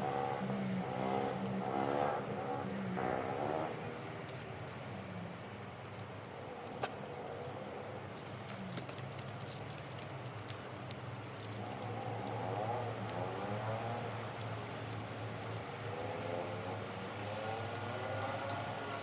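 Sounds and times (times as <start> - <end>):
light metallic clinks: 0.0 - 19.0.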